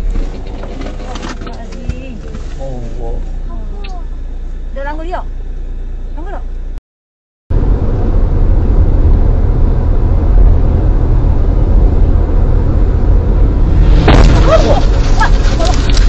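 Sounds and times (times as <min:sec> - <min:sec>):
car cabin road rumble: 0:00.0 - 0:06.8, 0:07.5 - 0:16.0.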